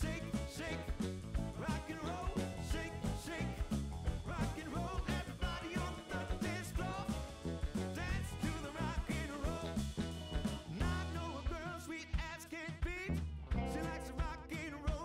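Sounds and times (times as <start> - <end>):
song with singing and drum beat: 0.0 - 15.0.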